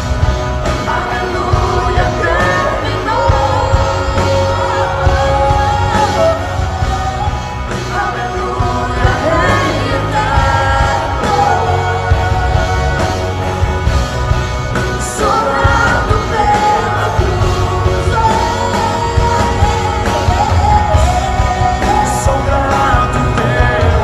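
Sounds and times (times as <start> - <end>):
live pop-rock worship music: 0.0 - 24.0
person singing: 0.6 - 13.8, 14.8 - 24.0.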